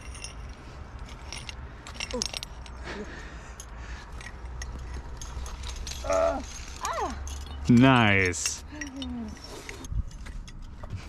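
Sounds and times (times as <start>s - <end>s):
climbing gear clinking: 0.0s - 11.0s.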